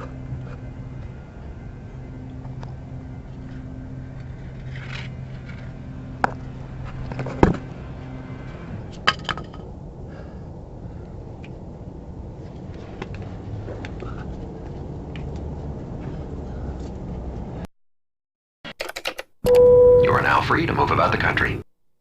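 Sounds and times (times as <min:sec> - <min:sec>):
engine humming: 0:00.0 - 0:17.6.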